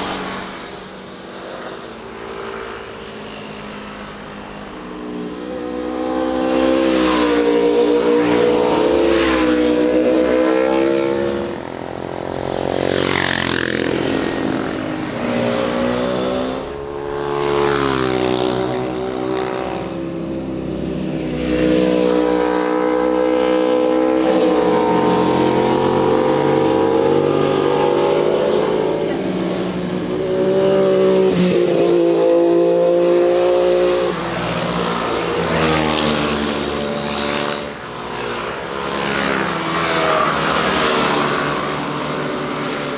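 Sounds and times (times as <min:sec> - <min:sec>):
motorcycles passing: 0:00.0 - 0:42.9.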